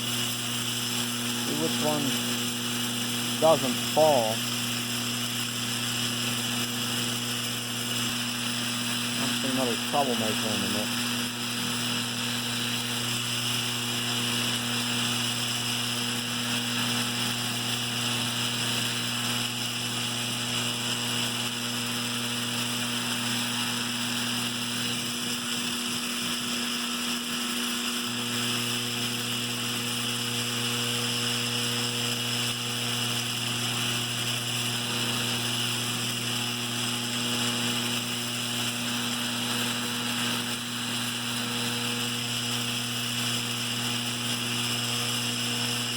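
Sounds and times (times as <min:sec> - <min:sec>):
toy vibrator mechanism buzzing: 0:00.0 - 0:45.9.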